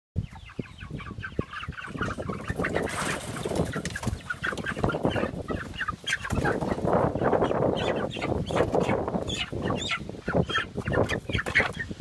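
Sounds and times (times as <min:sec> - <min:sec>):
chickens clucking: 0:00.2 - 0:12.0
chicken squawks: 0:00.3 - 0:12.0.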